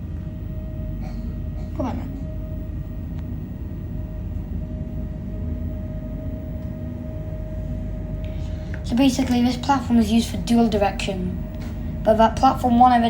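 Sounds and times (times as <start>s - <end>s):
constant equipment hum: 0.0s - 13.0s
train carriage rumble: 0.0s - 13.0s.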